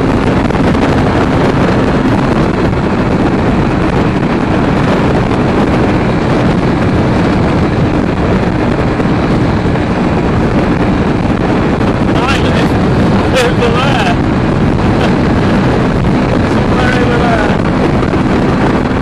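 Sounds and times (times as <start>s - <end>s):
motorcycle engine drone: 0.0s - 19.0s
wind rushing over microphone: 0.0s - 19.0s.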